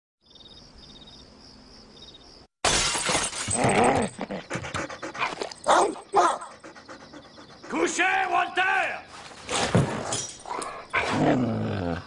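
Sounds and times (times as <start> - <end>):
night insects chirping: 0.2 - 2.5, 3.5 - 11.6.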